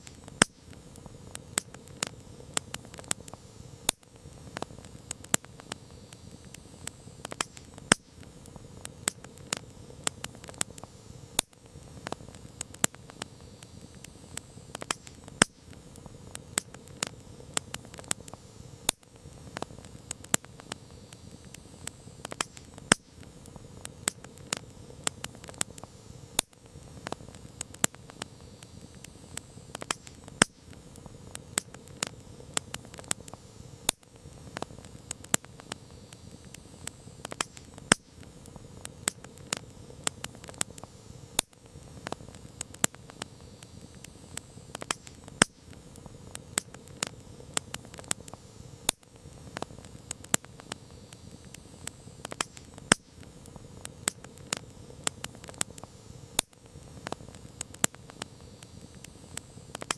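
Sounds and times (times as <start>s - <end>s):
campfire crackling and popping: 0.0s - 59.9s
hiss of flames: 0.0s - 59.9s.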